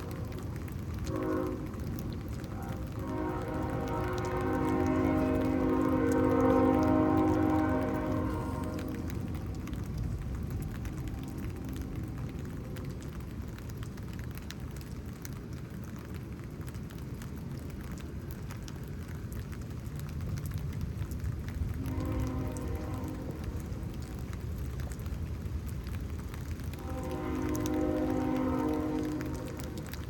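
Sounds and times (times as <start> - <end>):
low thunder rumble: 0.0 - 15.1, 20.2 - 30.0
raindrop impacts ticking: 0.0 - 30.0
steady rain: 0.0 - 30.0.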